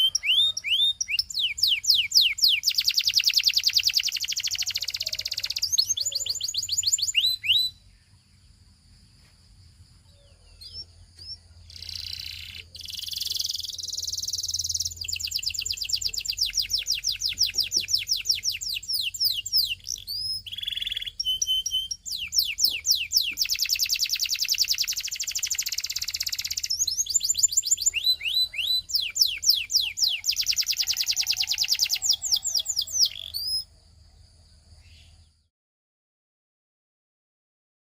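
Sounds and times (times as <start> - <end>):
canary singing: 0.0 - 8.6, 10.0 - 33.8.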